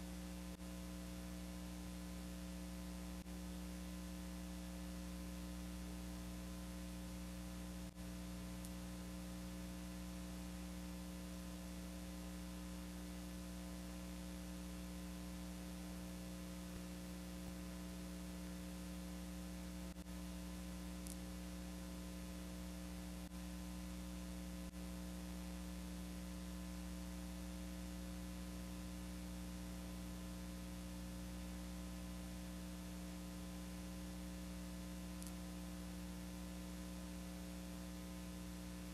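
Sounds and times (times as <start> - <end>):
electrical mains hum with hiss: 0.0 - 38.9.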